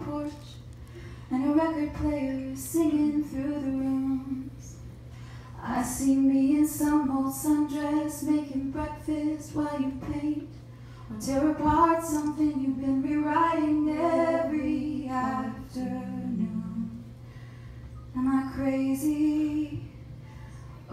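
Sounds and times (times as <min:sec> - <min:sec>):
woman singing into microphone: 0:00.0 - 0:00.6, 0:01.3 - 0:04.8, 0:05.6 - 0:17.0, 0:18.1 - 0:20.0.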